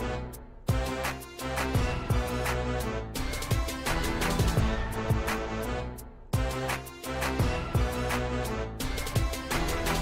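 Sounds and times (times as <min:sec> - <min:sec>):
electronic music with drum beat: 0:00.0 - 0:10.0.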